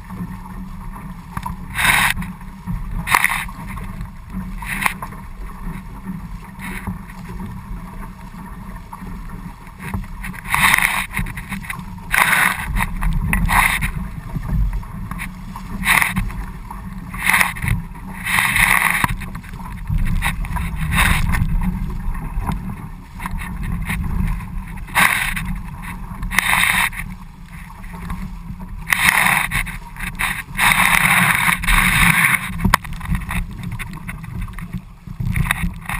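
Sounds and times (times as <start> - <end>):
water splashing along hull: 0.0 - 35.9
wind rumble on microphone: 0.0 - 35.9.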